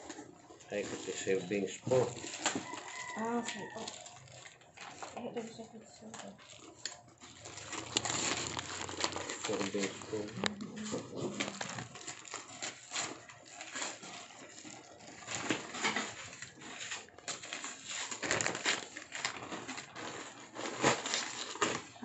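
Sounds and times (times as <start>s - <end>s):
paper and plastic wrapping rustling: 0.0s - 22.0s.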